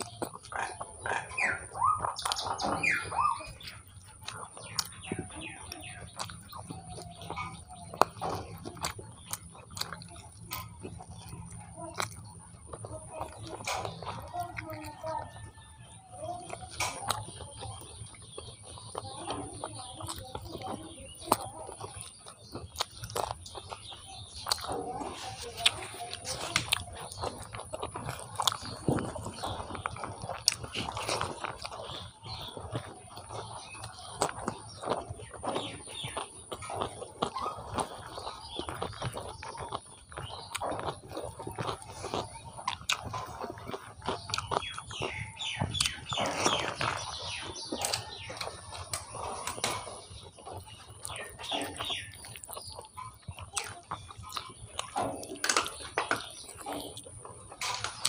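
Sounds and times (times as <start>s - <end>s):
chewing and wet mouth sounds: 0.0s - 58.0s
food crunching: 0.0s - 58.0s.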